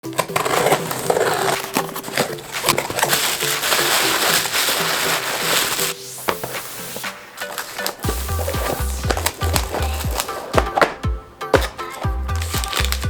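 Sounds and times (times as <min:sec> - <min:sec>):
plastic wrap crinkling: 0:00.0 - 0:13.0.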